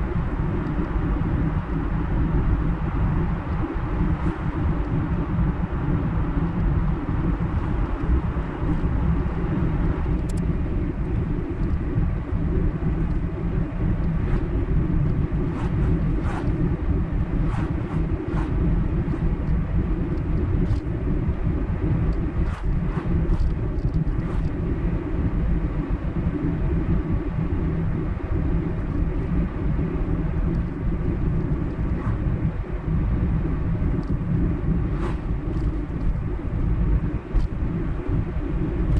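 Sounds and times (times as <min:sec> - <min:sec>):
car road and engine rumble: 0:00.0 - 0:25.7, 0:28.8 - 0:38.9.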